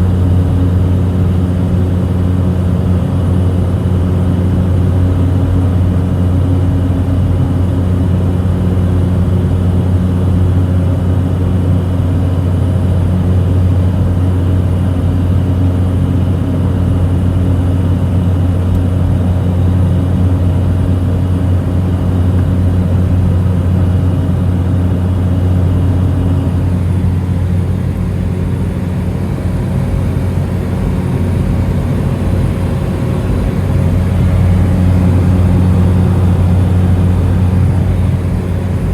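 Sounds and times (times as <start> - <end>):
turboprop engine drone: 0.0 - 38.9.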